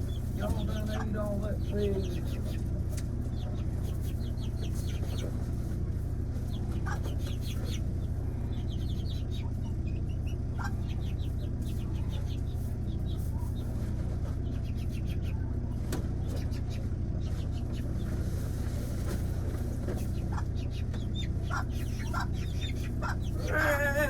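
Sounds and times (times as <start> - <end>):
chicks peeping: 0.0 - 24.0
steady low hum: 0.0 - 24.0.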